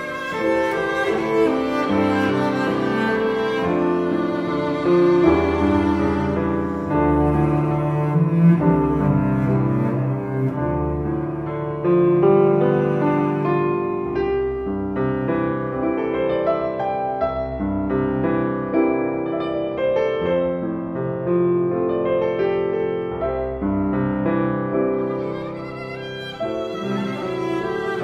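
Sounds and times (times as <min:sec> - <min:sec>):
violin: 0:00.0 - 0:20.8, 0:21.9 - 0:28.0
cello: 0:00.0 - 0:28.0
grand piano: 0:00.0 - 0:28.0.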